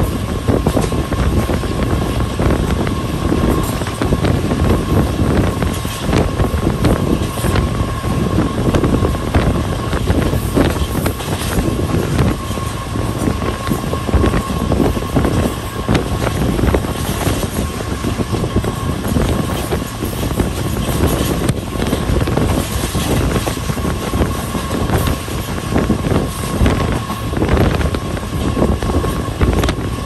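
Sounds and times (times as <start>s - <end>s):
thin steady whine: 0.0s - 30.0s
train wheels rumbling on rails: 0.0s - 30.0s
wheels clicking and clacking: 0.0s - 30.0s
wind buffeting microphone: 0.0s - 30.0s.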